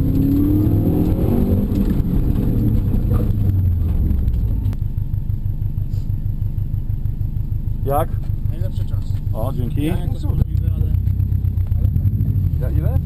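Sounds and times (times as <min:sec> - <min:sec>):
car engine slowing to idle: 0:01.6 - 0:13.0.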